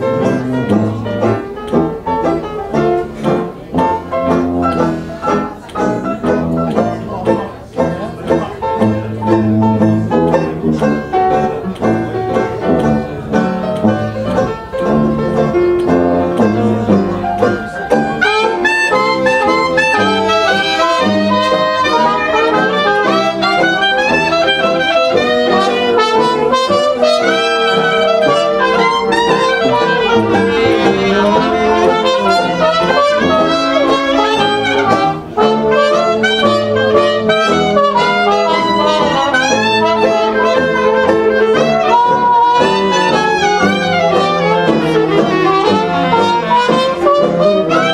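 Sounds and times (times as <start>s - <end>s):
jazz band playing: 0.0s - 47.9s.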